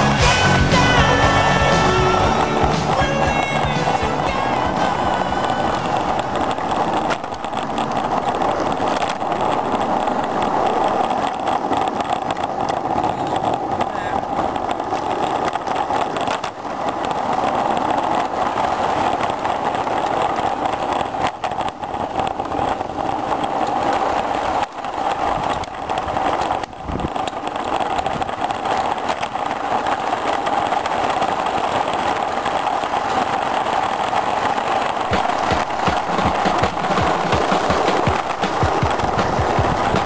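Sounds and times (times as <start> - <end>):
model train rumbling on track: 0.0 - 40.0.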